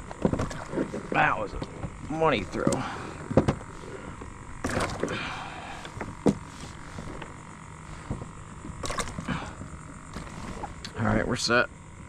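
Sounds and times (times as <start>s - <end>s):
gear clicking on kayak hull: 0.0s - 11.0s.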